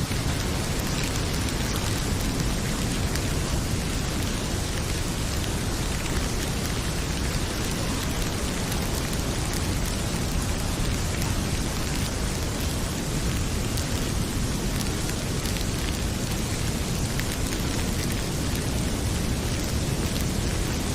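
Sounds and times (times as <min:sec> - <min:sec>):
heavy rain pouring: 0:00.0 - 0:20.9
wood fire crackling: 0:00.0 - 0:20.9.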